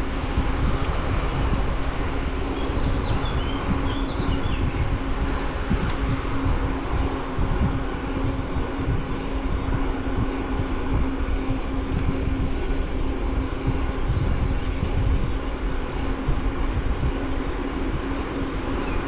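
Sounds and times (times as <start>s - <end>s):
steady hum: 0.0s - 19.0s
wind buffeting microphone: 0.0s - 19.0s.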